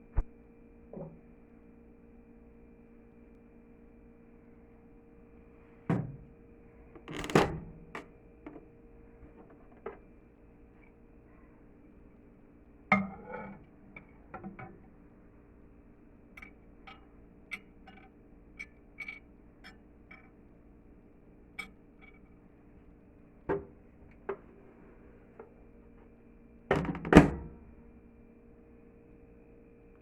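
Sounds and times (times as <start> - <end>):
microwave oven humming: 0.0 - 30.0.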